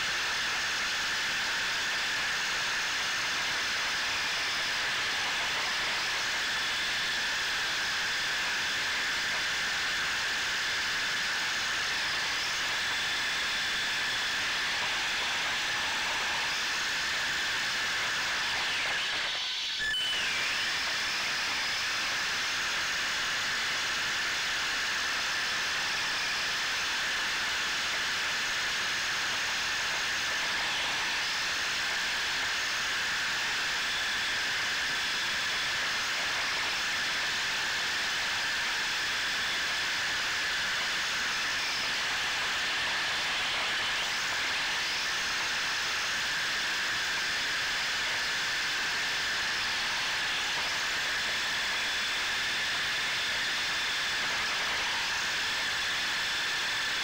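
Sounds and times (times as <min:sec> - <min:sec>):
electric motor and gears whining: 0:00.0 - 0:57.0.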